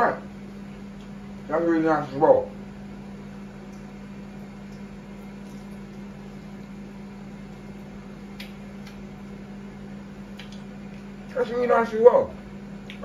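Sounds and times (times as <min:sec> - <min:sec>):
fan noise: 0:00.0 - 0:13.0
multi-cooker humming: 0:00.0 - 0:13.0.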